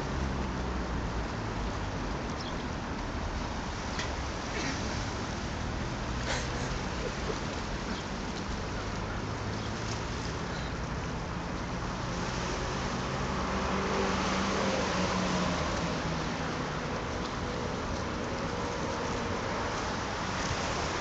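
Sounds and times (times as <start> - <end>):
steady outdoor background noise: 0.0 - 21.0.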